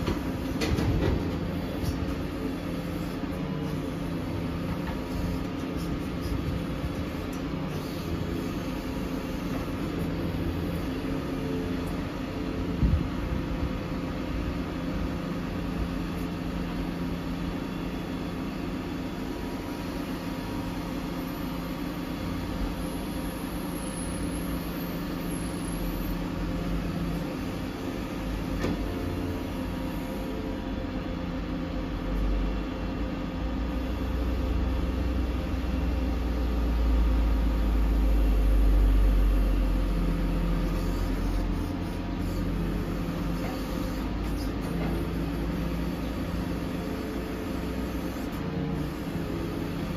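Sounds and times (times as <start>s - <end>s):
diesel lorry engine running: 0.0s - 49.9s.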